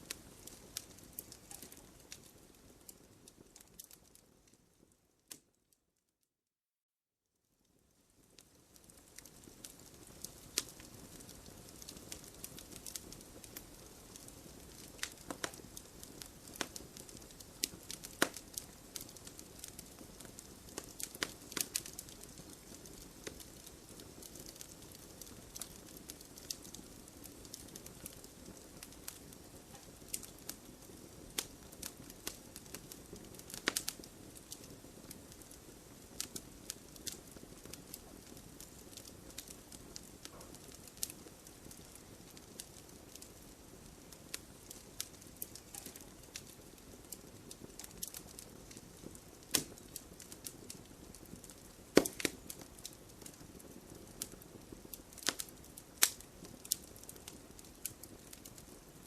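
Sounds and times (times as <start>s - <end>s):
campfire hissing: 0.0s - 4.0s, 8.2s - 59.0s
burning wood crackling and popping: 0.0s - 5.6s, 8.0s - 59.0s.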